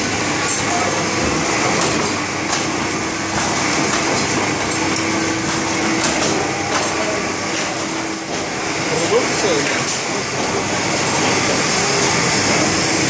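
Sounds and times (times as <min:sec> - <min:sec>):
bookbinding machine running: 0:00.0 - 0:13.0.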